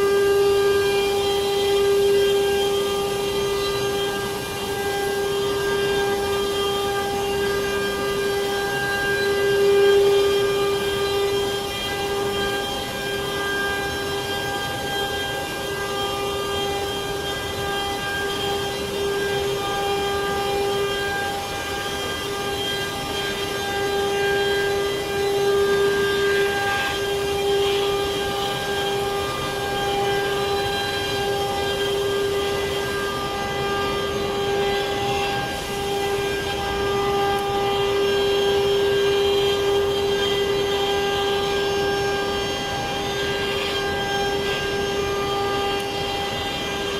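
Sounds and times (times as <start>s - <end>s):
router spindle whine: 0.0s - 46.9s.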